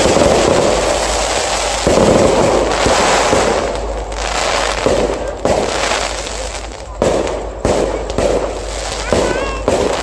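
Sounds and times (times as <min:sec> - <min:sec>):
fireworks barrage: 0:00.0 - 0:10.0
sharp firework bangs: 0:00.0 - 0:10.0.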